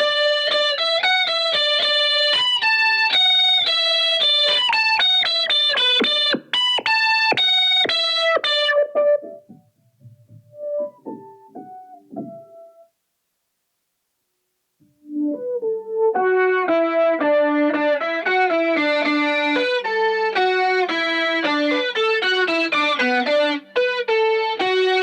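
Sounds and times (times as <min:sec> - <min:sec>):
synth guitar lead notes: 0:01.3 - 0:12.8, 0:15.0 - 0:25.0.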